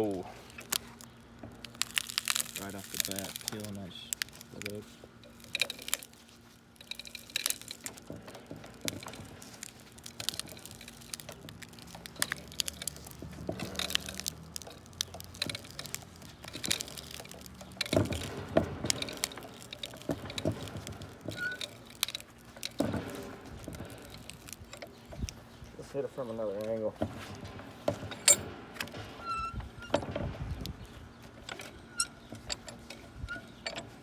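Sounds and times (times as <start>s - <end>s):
phone cracking and crunching in vise: 0.0s - 34.0s.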